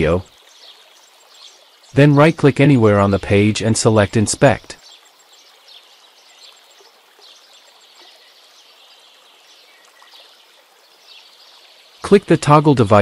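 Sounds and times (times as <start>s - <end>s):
birds chirping: 0.0s - 13.0s
steady hiss: 0.0s - 13.0s.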